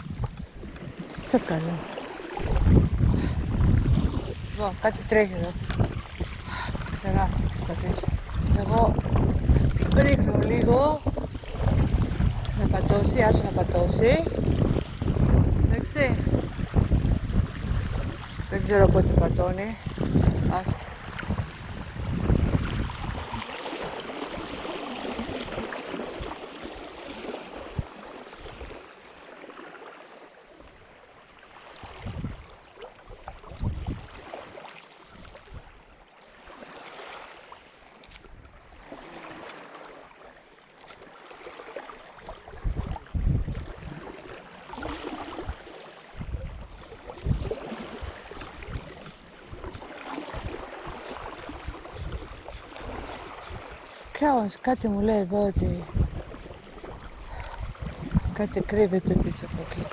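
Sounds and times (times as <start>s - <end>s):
wind buffeting microphone: 0.0s - 28.8s, 31.8s - 35.9s, 42.2s - 59.9s
sea water washing: 0.0s - 59.9s.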